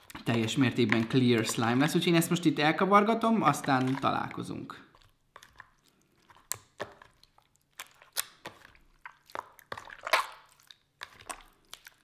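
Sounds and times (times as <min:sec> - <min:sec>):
slime squelching and popping: 0:00.0 - 0:12.0.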